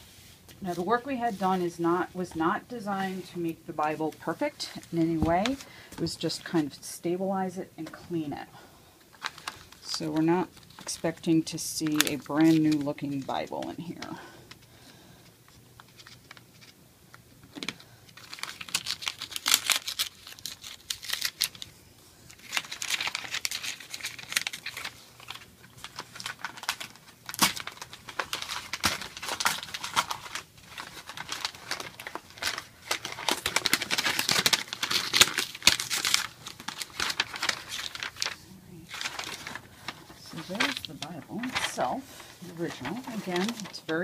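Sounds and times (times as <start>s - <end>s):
paper crinkling and rustling: 2.7s - 6.8s, 9.0s - 44.0s.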